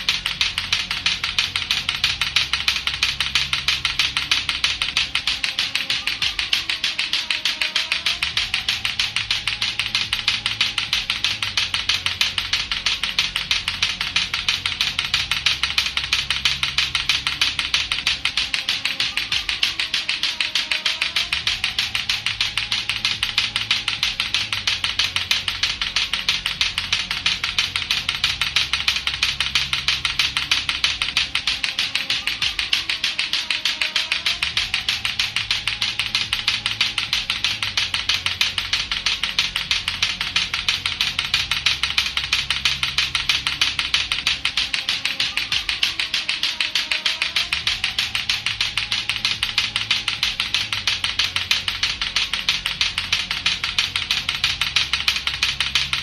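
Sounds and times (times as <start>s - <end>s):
clacker balls clacking: 0.0s - 56.0s
low looped backing music: 0.0s - 56.0s.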